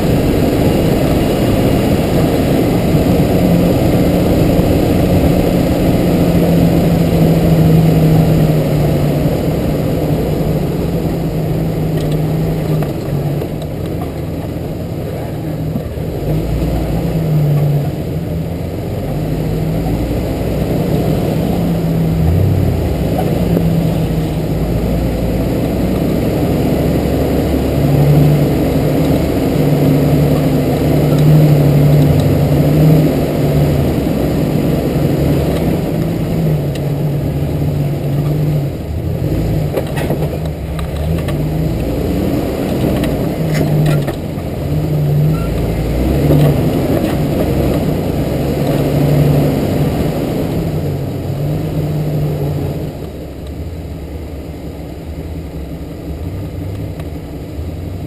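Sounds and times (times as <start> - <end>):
vehicle engine at low speed: 0.0 - 58.0.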